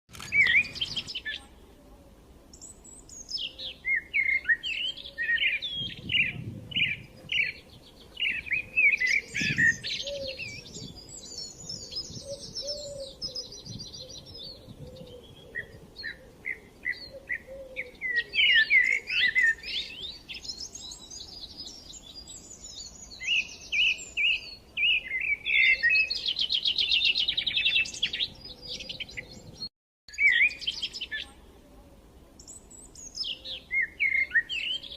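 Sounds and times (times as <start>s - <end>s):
songbirds chirping and singing: 0.1s - 31.6s, 32.4s - 34.9s.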